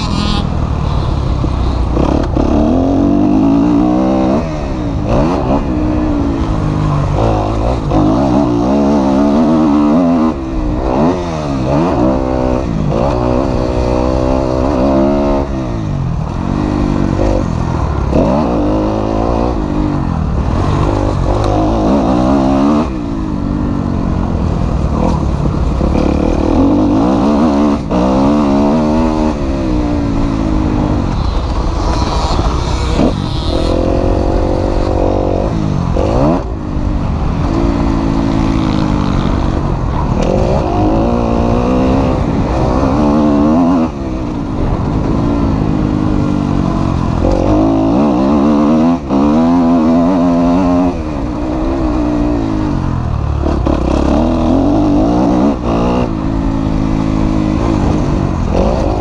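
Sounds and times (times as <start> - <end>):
motocross engine revving: 0.0 - 59.0.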